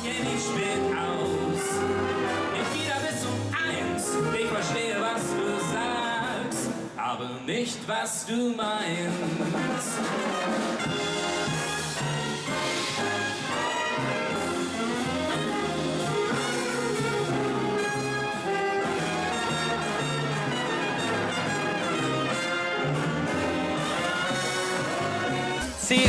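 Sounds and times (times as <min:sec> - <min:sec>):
swing band with brass: 0:00.0 - 0:07.1, 0:08.6 - 0:26.0.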